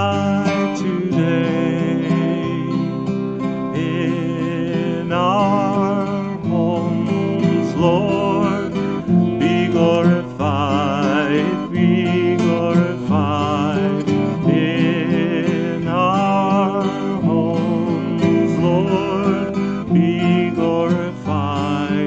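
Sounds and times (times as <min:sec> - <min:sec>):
acoustic guitar strumming: 0:00.0 - 0:22.0
person singing with vibrato: 0:00.0 - 0:22.0.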